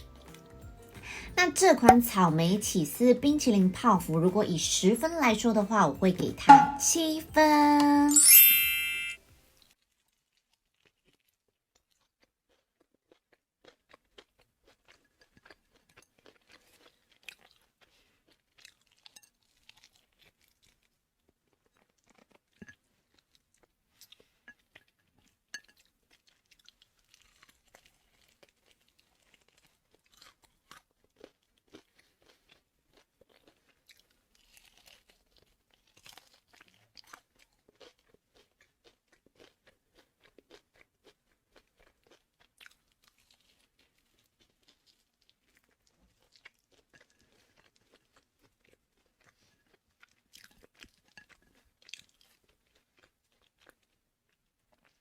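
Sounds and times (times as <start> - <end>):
person chewing crunchy food: 0.0 - 2.3, 9.9 - 55.0.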